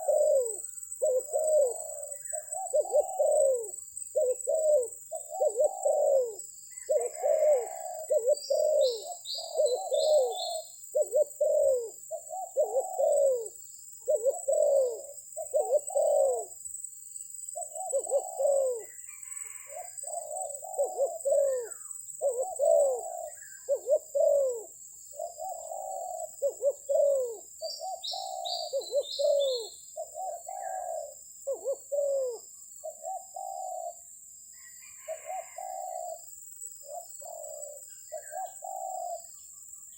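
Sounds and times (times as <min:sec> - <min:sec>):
dove cooing: 0:00.0 - 0:16.7, 0:17.4 - 0:39.5.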